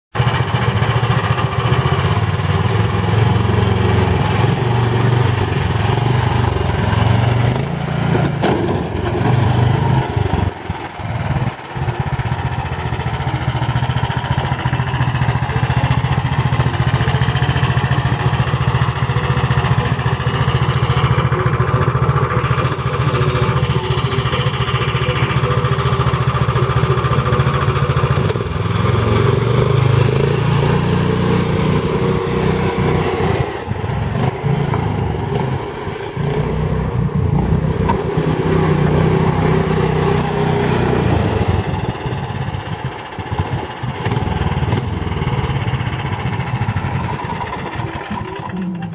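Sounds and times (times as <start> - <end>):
small gasoline engine running: 0.1 - 48.9.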